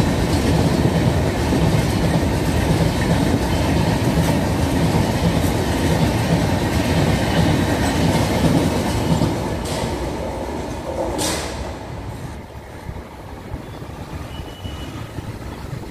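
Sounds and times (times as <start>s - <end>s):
train wheels clattering on rails: 0.0s - 15.9s.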